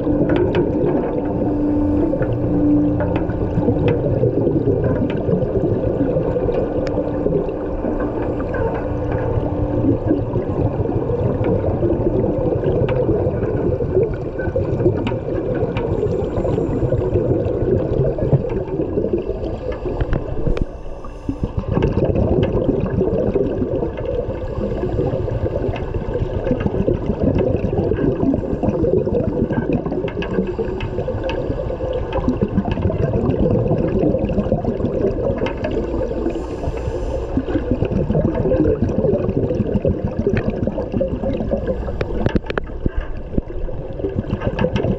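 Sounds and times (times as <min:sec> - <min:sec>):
regulator bubbles: 0:00.0 - 0:44.9
underwater rush and gurgle: 0:00.0 - 0:44.9.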